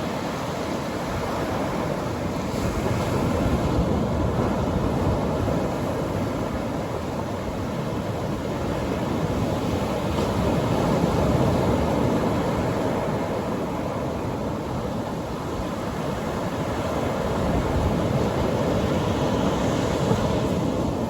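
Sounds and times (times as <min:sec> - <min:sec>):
surf breaking on a beach: 0:00.0 - 0:21.0.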